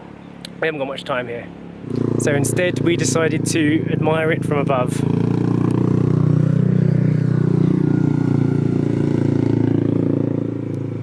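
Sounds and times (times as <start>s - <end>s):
vehicle engine running: 1.6s - 11.0s.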